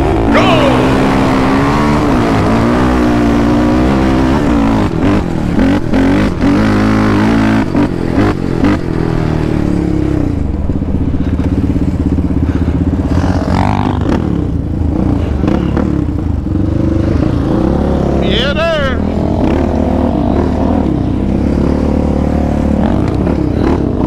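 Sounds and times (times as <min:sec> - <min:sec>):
quad engine revving: 0:00.0 - 0:10.5, 0:12.4 - 0:24.0.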